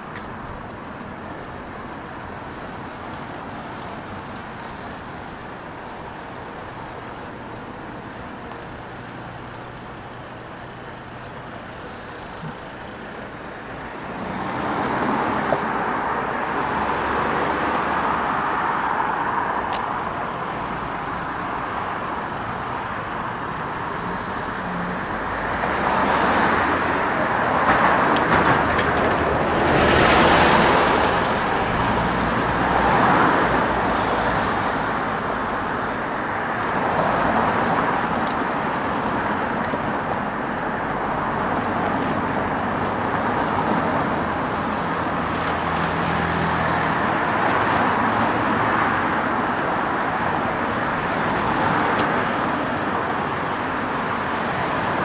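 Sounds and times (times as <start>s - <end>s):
cars passing close by: 0.0s - 55.0s
engine and tyre noise: 0.0s - 55.0s.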